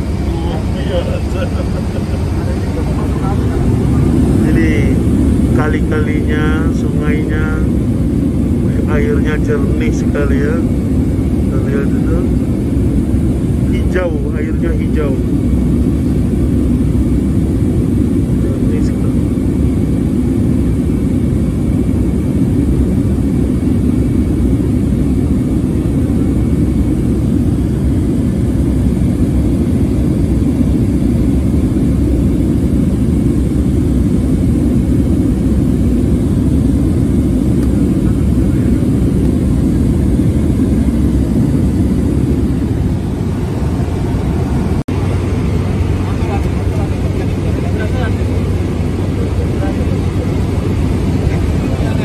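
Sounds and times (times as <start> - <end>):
propeller aircraft drone in cabin: 0.0 - 52.0.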